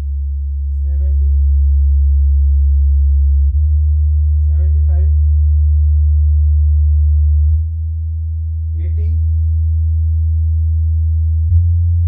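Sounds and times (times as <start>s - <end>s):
low bass test tone: 0.0s - 12.0s.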